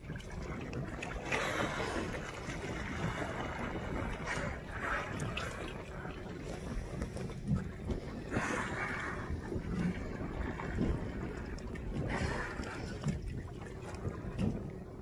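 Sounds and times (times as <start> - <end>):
wind and open water: 0.0 - 15.0
wind buffeting microphone: 0.0 - 15.0.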